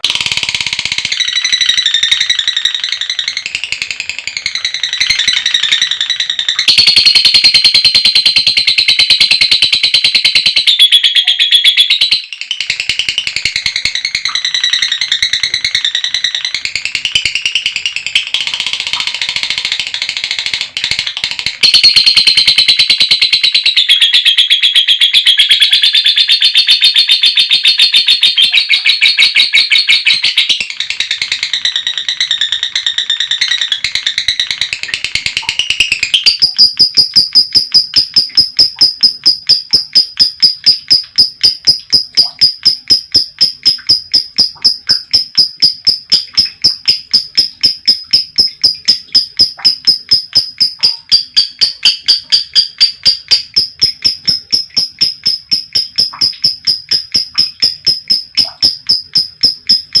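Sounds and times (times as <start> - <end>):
lovebird chirping: 0.1 - 19.7, 21.6 - 60.0.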